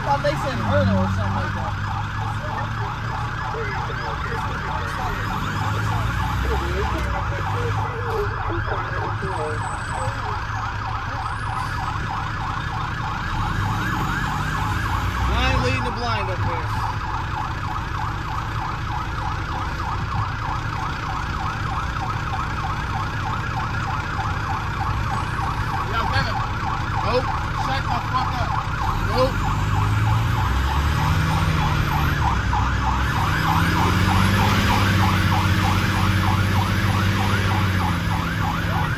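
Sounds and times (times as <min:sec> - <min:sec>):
diesel engine running: 0:00.0 - 0:38.9
fire truck siren yelping: 0:00.0 - 0:38.9.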